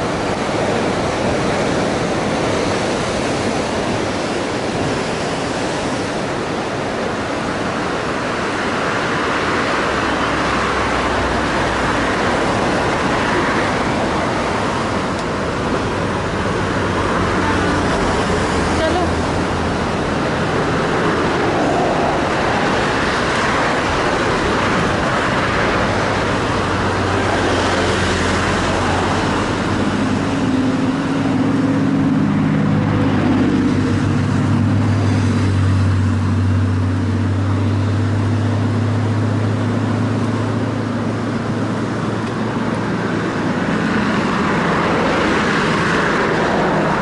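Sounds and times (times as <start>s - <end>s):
cars passing: 0.0s - 47.0s
vehicle engine drone: 0.0s - 47.0s.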